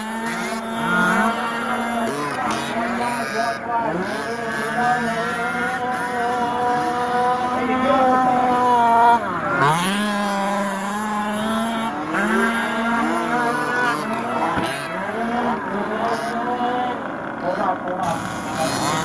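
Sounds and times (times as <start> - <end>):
small engines buzzing at high revs: 0.0 - 19.0.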